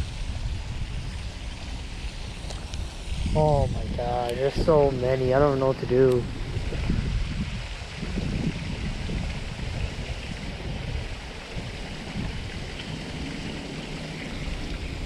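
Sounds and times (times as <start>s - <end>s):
faint outdoor hiss: 0.0s - 15.0s
wind rumble on microphone: 0.0s - 15.0s.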